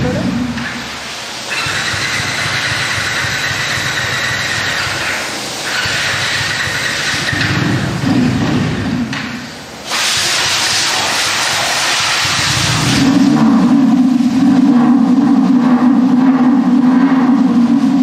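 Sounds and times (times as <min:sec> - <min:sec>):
pressure washer spraying: 0:00.0 - 0:16.2.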